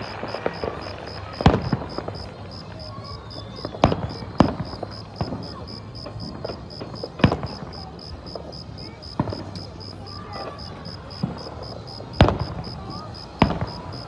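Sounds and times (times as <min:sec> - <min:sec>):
firework pops and crackles: 0:00.0 - 0:14.0
fireworks bangs: 0:00.0 - 0:14.0.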